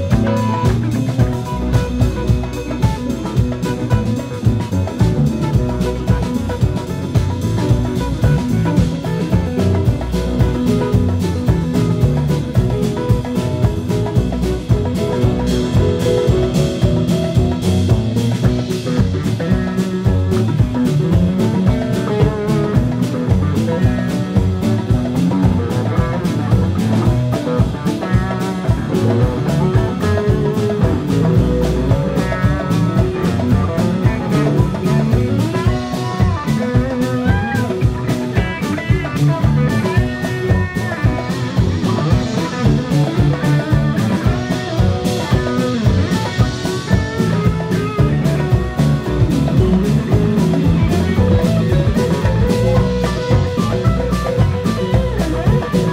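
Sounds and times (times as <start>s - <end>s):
electric guitar lead: 0.0s - 55.9s
live rock band: 0.0s - 55.9s.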